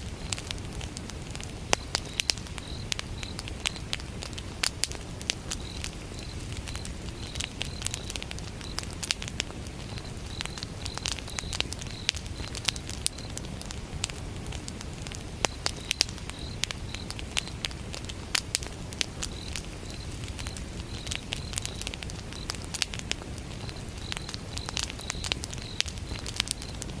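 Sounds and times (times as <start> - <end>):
campfire crackling and popping: 0.0 - 27.0
cricket chirping: 0.0 - 27.0
low steady fire rumble: 0.0 - 27.0.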